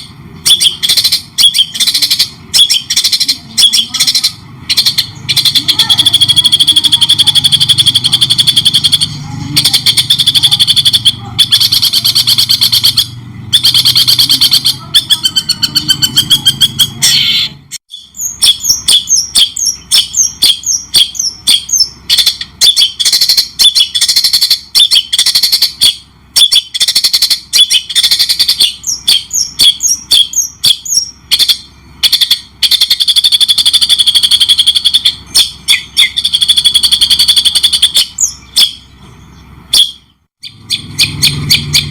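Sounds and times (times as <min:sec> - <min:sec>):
songbird chirps and trills: 0:00.0 - 0:41.9.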